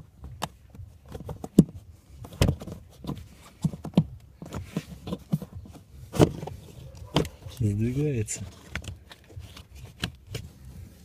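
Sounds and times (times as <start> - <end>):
hard plastic clicks and scrapes: 0.2 - 11.0.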